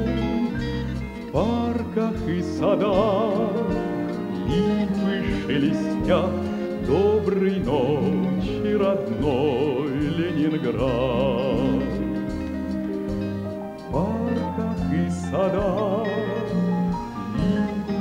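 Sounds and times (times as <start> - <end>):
man singing without words: 0.0 - 12.8, 13.7 - 18.0
orchestral strings: 0.0 - 18.0.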